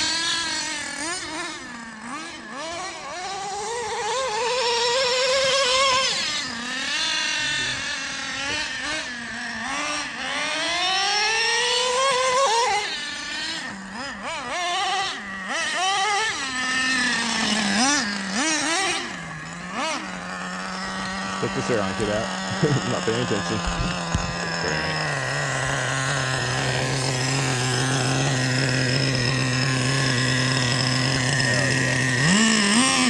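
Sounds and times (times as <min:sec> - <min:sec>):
small rc truck engine revving: 0:00.0 - 0:33.0.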